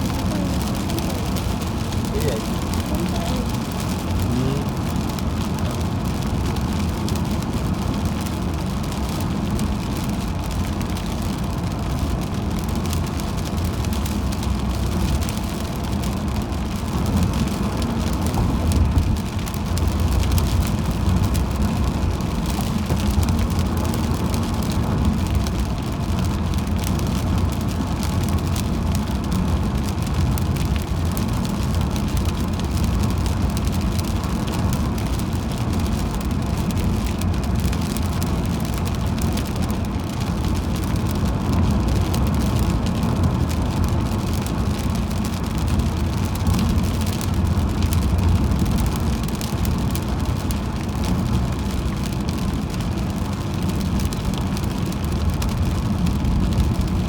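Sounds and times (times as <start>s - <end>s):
raindrops ticking: 0.0s - 57.0s
tyre noise on wet road: 0.0s - 57.0s.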